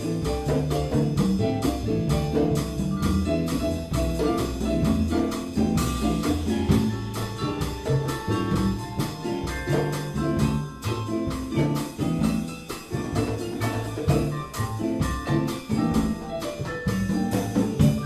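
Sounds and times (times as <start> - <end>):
bass line: 0.0 - 18.0
hand percussion: 0.0 - 18.0
latin jazz band playing: 0.0 - 18.0.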